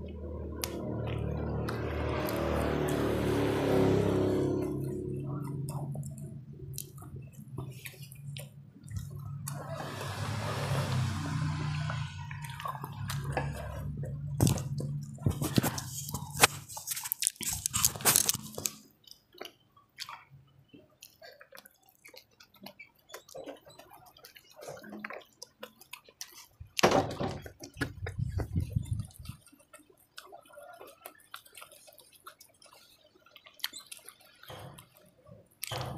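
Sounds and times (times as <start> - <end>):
wet chewing and smacking: 0.0 - 26.8, 27.4 - 35.9.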